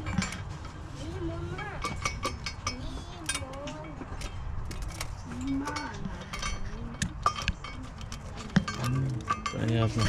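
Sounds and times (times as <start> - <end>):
tools clinking on metal: 0.0 - 0.8, 1.4 - 10.0.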